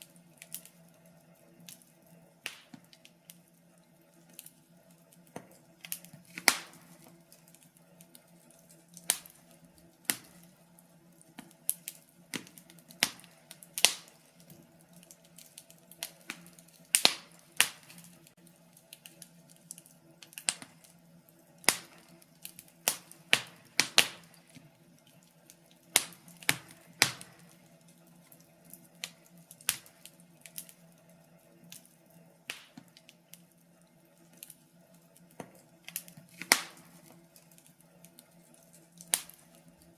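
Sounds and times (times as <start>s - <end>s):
faint steady low hum: 0.0s - 39.9s
fireplace fire crackling: 0.0s - 39.9s.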